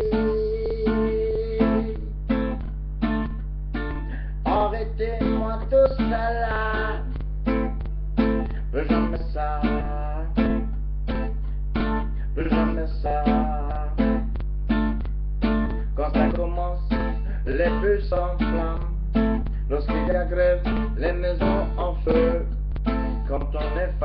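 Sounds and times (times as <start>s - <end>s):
acoustic guitar strumming: 0.0s - 24.0s
low electrical hum: 0.0s - 24.0s.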